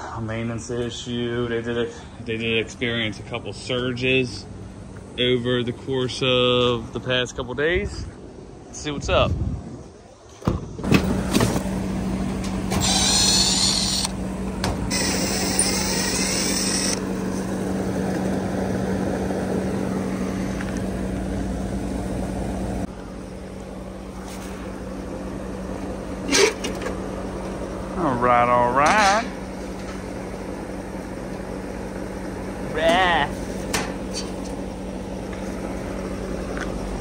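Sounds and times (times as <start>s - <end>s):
air conditioner hum and fan: 0.0s - 37.0s.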